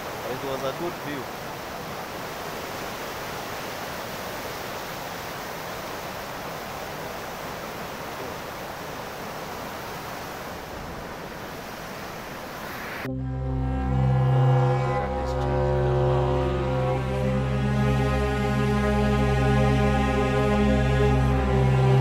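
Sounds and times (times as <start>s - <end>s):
white water rushing: 0.0s - 13.1s, 15.0s - 22.0s.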